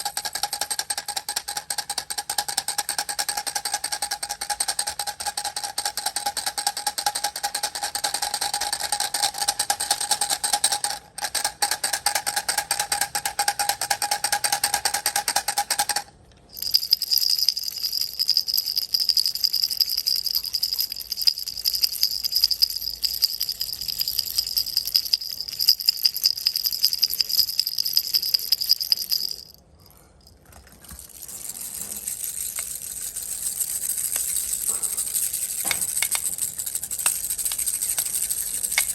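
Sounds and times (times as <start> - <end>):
baby toy rattles shaken: 0.0 - 38.9.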